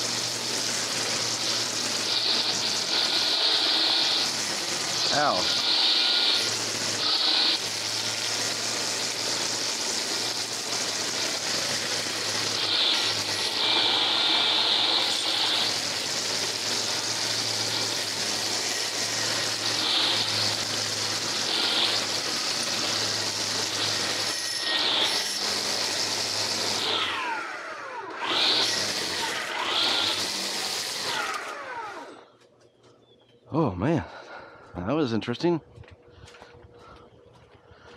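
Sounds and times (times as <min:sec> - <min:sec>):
string trimmer cutting weeds: 0:00.0 - 0:32.2.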